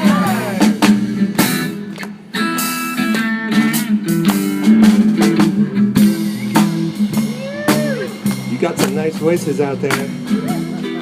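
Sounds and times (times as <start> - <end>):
drum kit beats: 0.0 - 11.0
guitar chords: 0.0 - 11.0.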